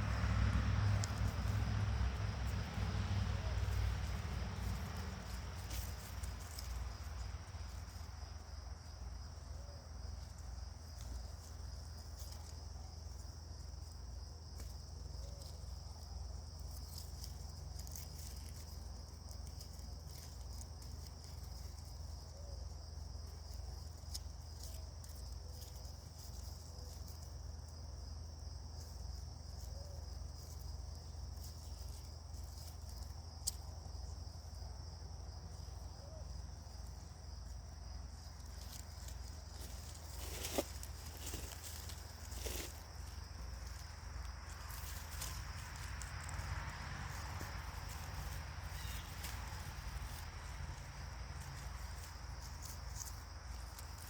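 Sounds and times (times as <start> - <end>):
constant low rumble: 0.0 - 54.0
cricket trilling: 0.0 - 54.0.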